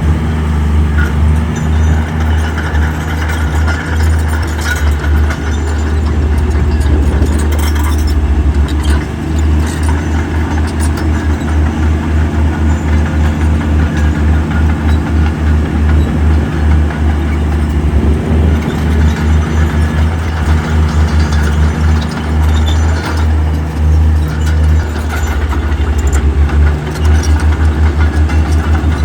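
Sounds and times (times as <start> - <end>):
heavy diesel engine under load: 0.0 - 29.0
clattering: 1.0 - 29.0.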